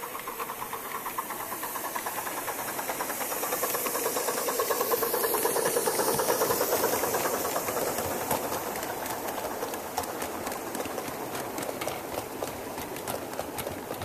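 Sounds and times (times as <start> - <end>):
steam locomotive exhaust beats: 0.0 - 14.0
train wheels clicking over rail joints: 0.0 - 14.0.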